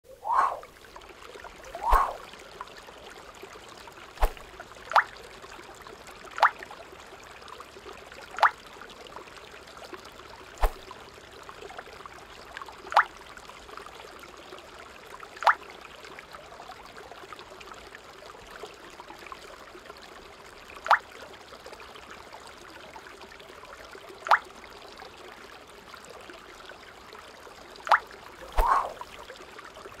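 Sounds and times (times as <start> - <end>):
trickle of running water: 0.2 - 30.0.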